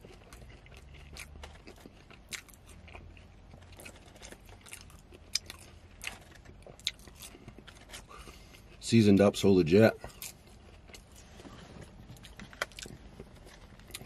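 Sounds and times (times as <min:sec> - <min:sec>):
chewing crispy fries: 0:00.0 - 0:14.0.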